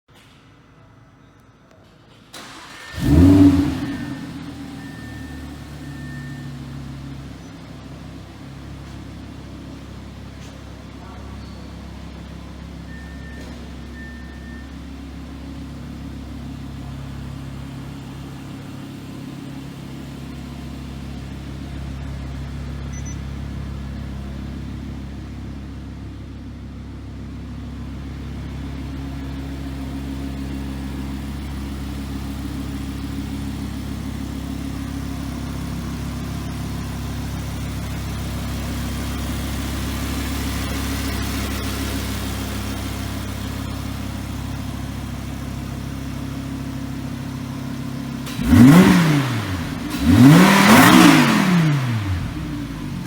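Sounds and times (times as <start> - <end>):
car engine idling: 2.2 - 53.0.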